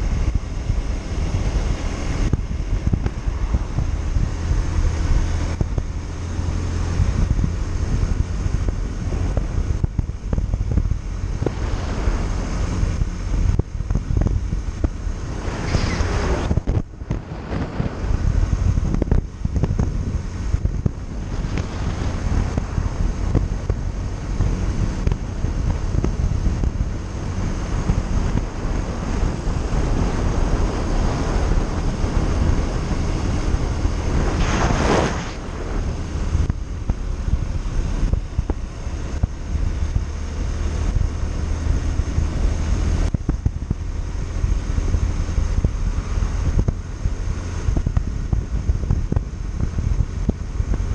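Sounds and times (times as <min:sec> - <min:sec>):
motorcycle road and engine noise: 0:00.0 - 0:50.9
wind buffeting microphone: 0:00.0 - 0:50.9.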